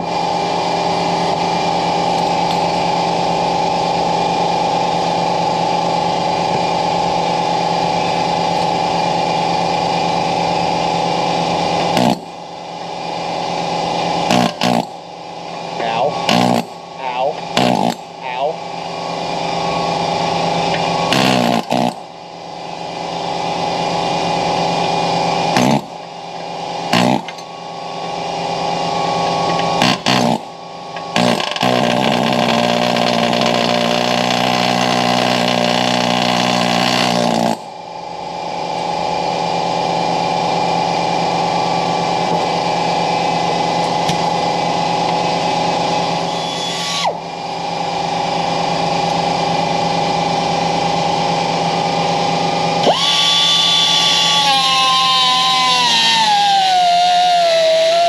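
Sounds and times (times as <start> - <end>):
grinder cutting metal: 6.1 - 22.1, 22.8 - 37.7, 41.8 - 58.0.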